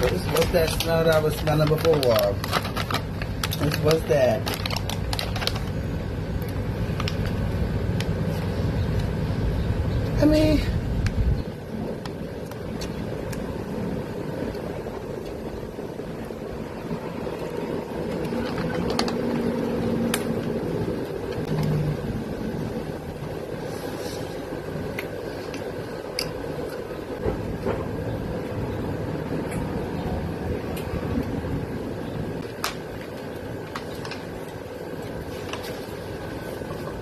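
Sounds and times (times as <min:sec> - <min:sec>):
steady background rumble: 0:00.0 - 0:37.0.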